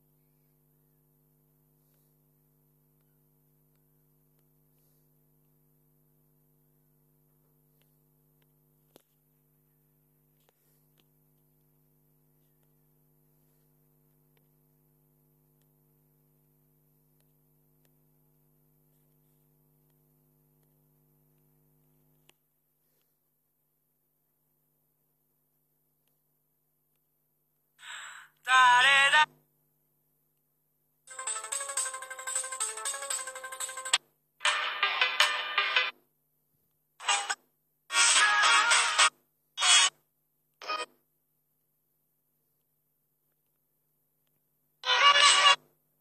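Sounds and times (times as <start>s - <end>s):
faint electrical hum: 0.0s - 46.0s.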